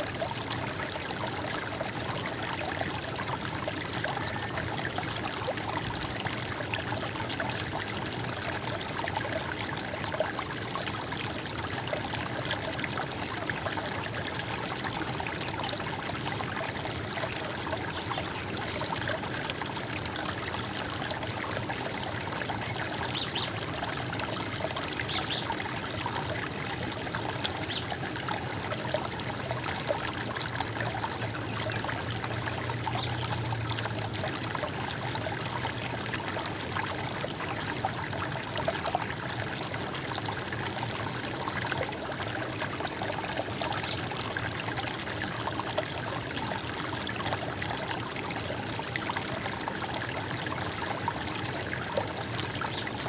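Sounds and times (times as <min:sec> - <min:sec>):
water trickling and gurgling: 0:00.0 - 0:53.0.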